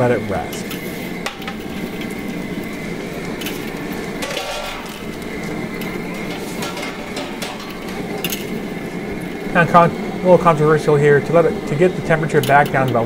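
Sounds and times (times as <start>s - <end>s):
gas burner rushing: 0.0s - 13.0s.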